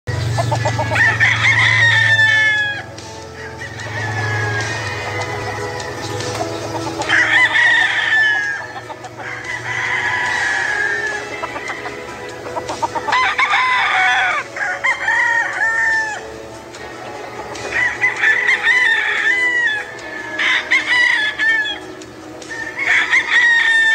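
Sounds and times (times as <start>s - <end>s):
rooster crowing: 0.4s - 23.9s.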